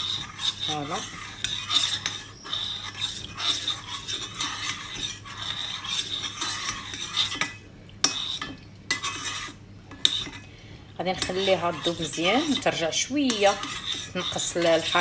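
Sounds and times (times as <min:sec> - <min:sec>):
metal spoon scraping a saucepan: 0:00.0 - 0:15.0.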